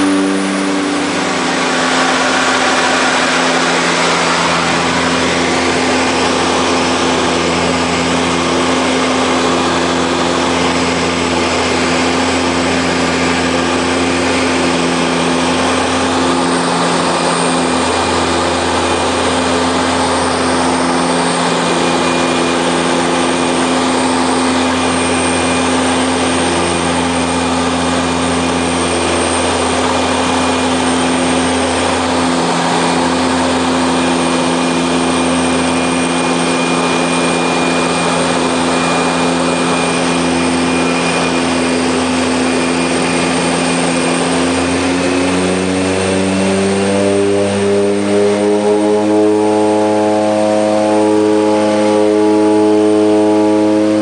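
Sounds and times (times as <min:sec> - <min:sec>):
turboprop engine drone in cabin: 0:00.0 - 0:54.0.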